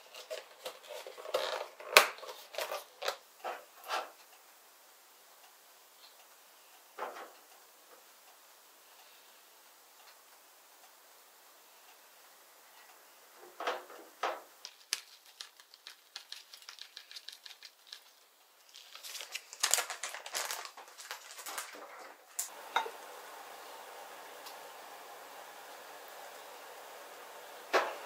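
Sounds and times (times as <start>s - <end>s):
steady soft hiss: 0.0s - 28.0s.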